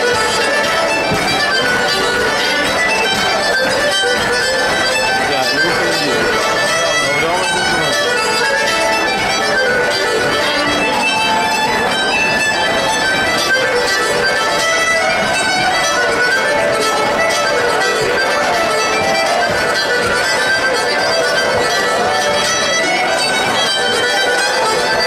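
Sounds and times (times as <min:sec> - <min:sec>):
accordion: 0:00.0 - 0:25.0
fiddle melody: 0:00.0 - 0:25.0.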